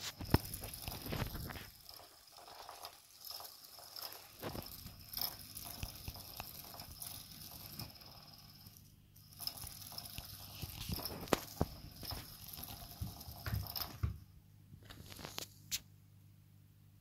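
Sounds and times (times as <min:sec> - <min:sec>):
electric toy whirring: 0:00.0 - 0:14.1.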